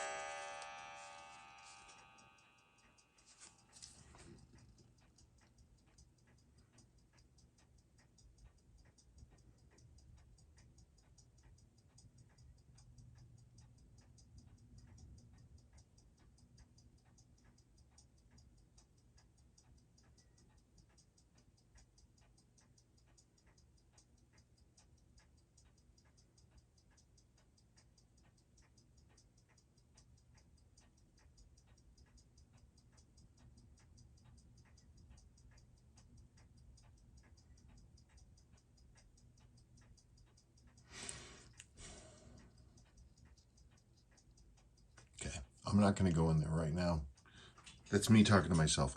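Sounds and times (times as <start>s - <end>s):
watch ticking: 0.0s - 48.9s.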